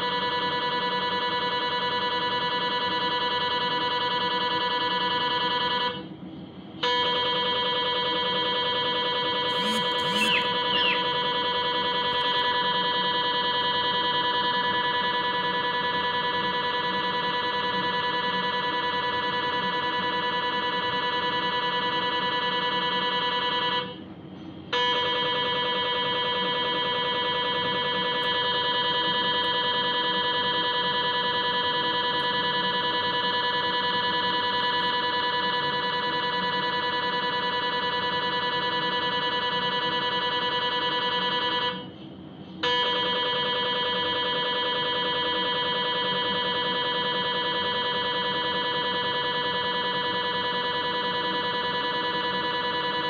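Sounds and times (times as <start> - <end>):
mri scanner buzzing tone: 0.0 - 6.2, 6.8 - 24.1, 24.7 - 41.9, 42.6 - 53.0.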